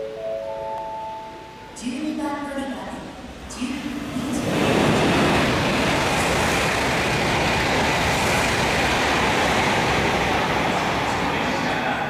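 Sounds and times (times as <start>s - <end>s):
high-speed train roaring past: 0.0s - 12.0s.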